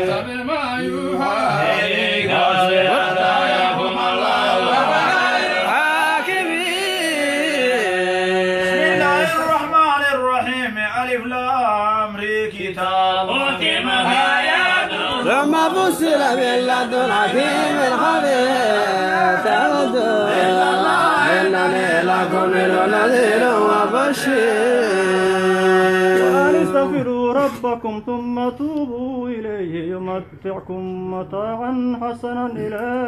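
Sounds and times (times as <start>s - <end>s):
men chanting: 0.0s - 30.2s.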